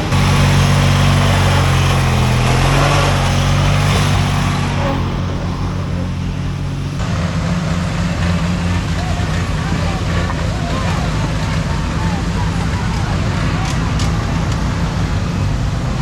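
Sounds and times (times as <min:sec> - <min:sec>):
lawn mower engine droning: 0:00.0 - 0:16.0.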